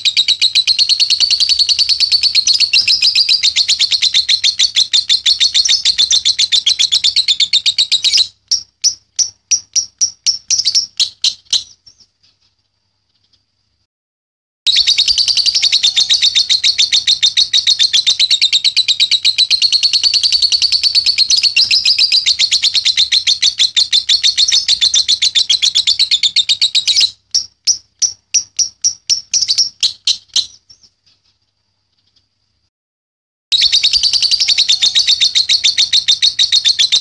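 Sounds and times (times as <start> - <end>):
lovebird chattering chirps: 0.0 - 12.1, 14.7 - 30.9, 33.6 - 37.0.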